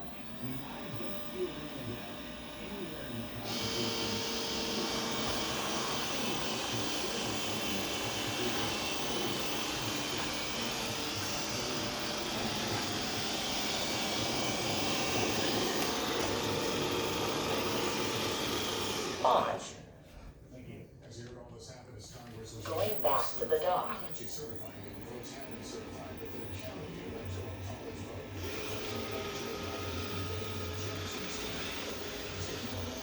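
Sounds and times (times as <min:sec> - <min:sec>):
robot vacuum whirring: 0:00.0 - 0:19.6, 0:22.8 - 0:33.0.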